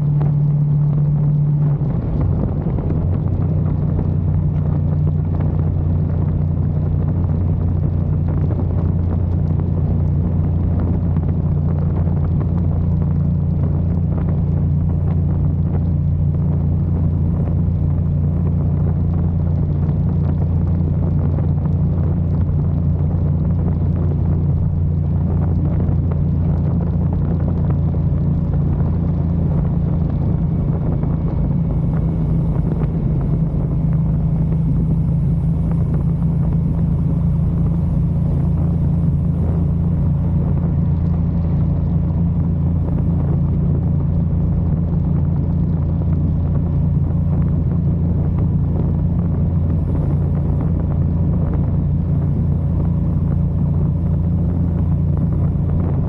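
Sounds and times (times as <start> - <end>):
motorcycle engine drone: 0.0 - 56.0
road rumble: 0.0 - 56.0
wind on microphone: 0.0 - 56.0.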